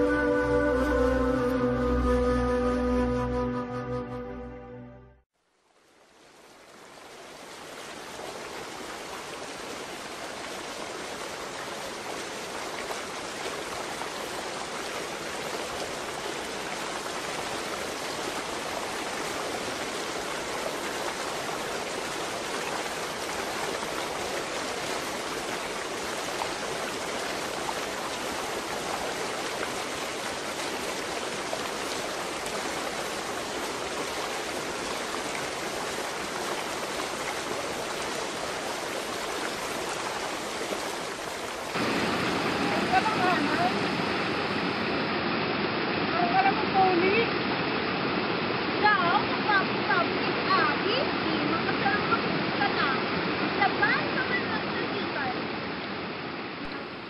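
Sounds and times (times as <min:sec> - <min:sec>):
stream rushing over stones: 0:05.4 - 0:57.0.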